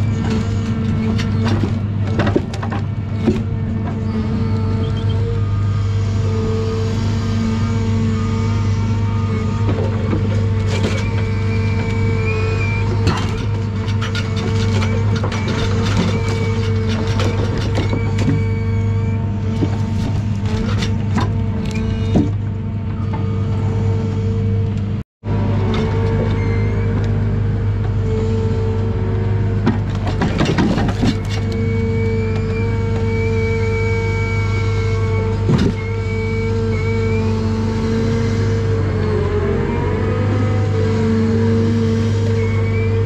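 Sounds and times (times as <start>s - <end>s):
engine low drone: 0.0s - 43.0s
hydraulic whine: 0.0s - 43.0s.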